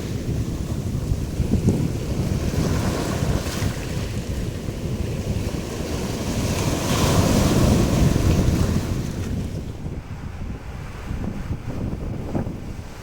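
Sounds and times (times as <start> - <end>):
surf washing: 0.0 - 13.0
wind buffeting microphone: 0.0 - 13.0.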